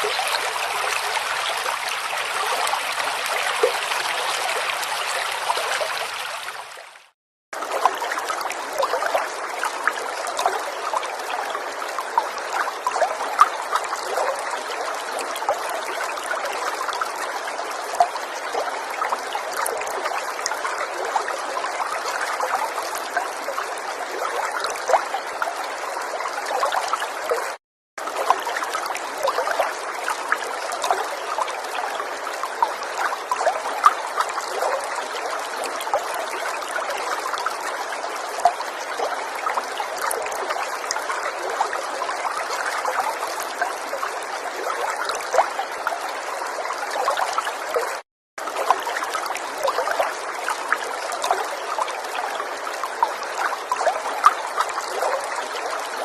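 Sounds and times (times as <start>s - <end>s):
river water running: 0.0s - 56.0s
small water splashes: 0.0s - 56.0s.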